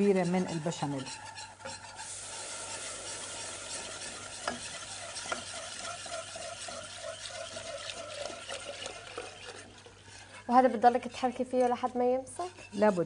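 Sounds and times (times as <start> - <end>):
spatula scraping pot: 0.0 - 13.0
sauce sizzling in pot: 0.7 - 11.4.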